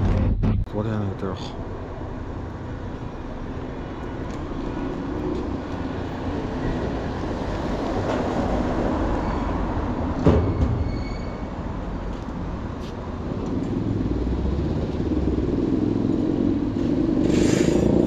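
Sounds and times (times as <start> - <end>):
heavy traffic rumble: 0.0 - 18.0.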